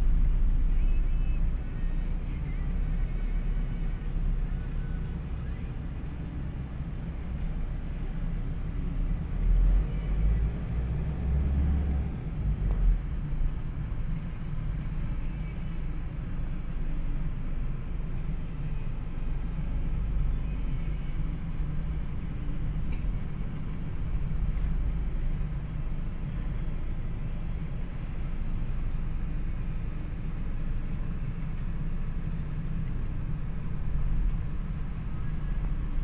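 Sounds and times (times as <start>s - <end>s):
vehicle engine rumble: 0.0s - 36.0s.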